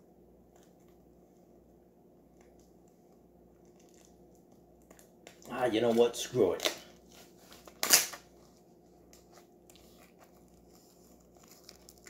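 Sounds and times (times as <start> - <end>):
plastic shrink wrap crackling: 2.3 - 12.0.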